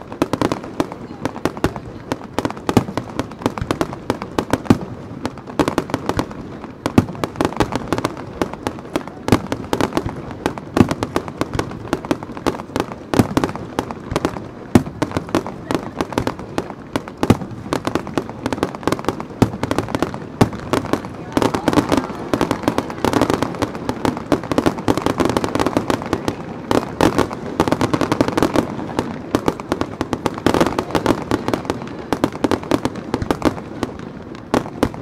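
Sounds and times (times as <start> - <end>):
fireworks bangs and crackles: 0.0 - 35.0
heavy fireworks booms: 0.0 - 35.0.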